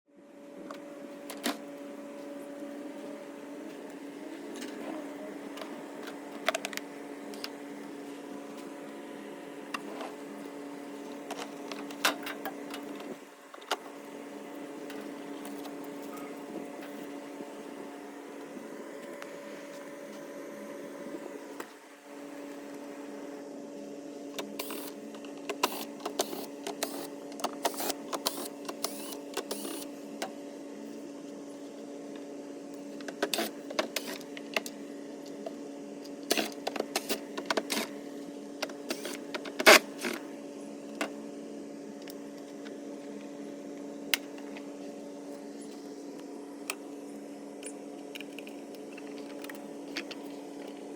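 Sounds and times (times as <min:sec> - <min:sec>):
steady hum: 0:00.1 - 0:50.9.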